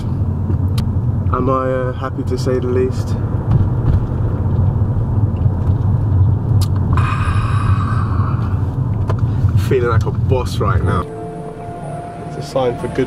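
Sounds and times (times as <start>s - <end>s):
car rumble inside cabin: 0.0s - 13.0s.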